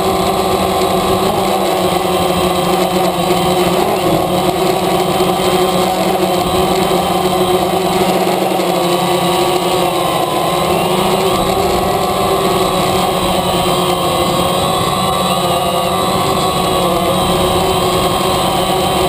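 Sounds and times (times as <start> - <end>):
quadcopter propellers humming: 0.0 - 19.0.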